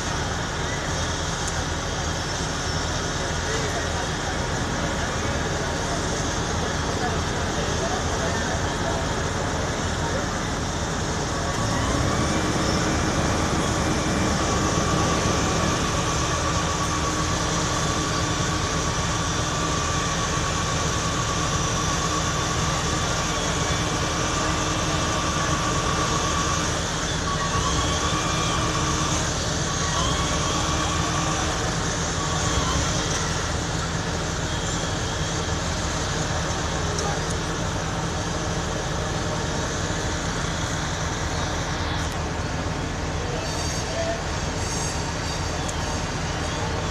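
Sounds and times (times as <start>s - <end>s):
constant whine: 0.0s - 46.9s
diesel engines and water pumps droning: 0.0s - 46.9s.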